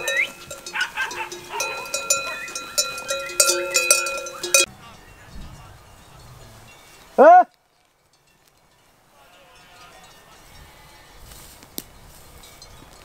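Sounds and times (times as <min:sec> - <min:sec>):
sheep bells clinking: 0:00.0 - 0:07.2, 0:08.0 - 0:11.3, 0:11.9 - 0:13.0.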